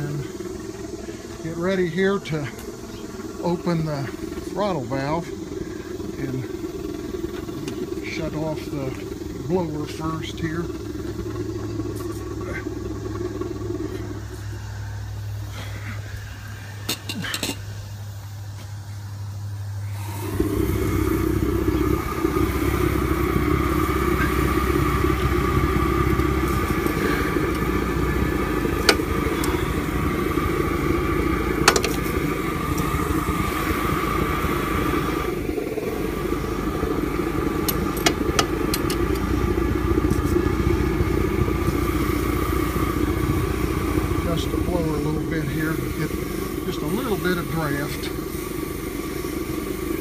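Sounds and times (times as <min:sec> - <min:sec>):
steam engine exhaust beat: 0:00.0 - 0:50.0.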